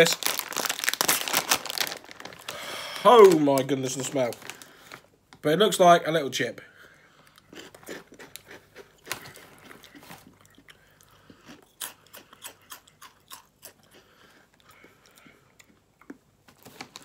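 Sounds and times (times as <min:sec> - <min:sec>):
person crunching crisp snacks: 0:00.0 - 0:04.8, 0:07.2 - 0:17.0.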